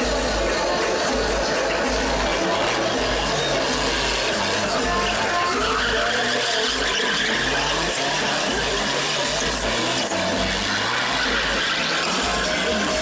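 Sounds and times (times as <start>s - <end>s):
loud music with bass line: 0.0s - 13.0s
car tyres skidding and squealing: 0.1s - 13.0s.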